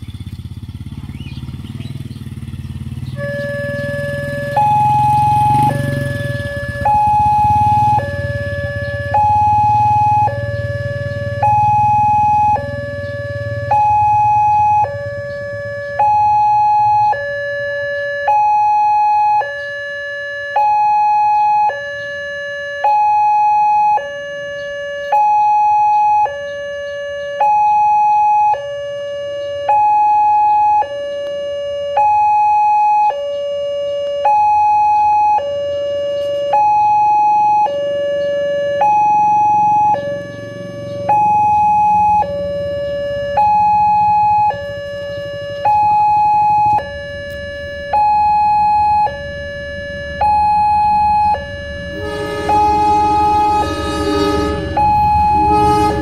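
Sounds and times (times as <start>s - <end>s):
two-tone warning siren: 0.0s - 56.0s.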